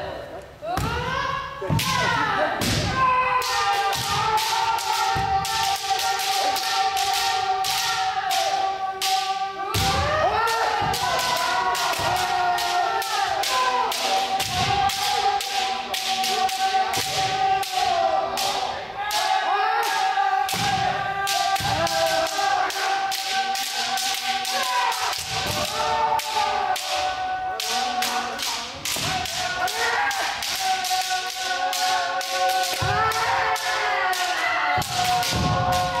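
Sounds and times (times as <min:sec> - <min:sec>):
people shouting: 0:00.0 - 0:36.0
bamboo swords clacking: 0:01.7 - 0:36.0.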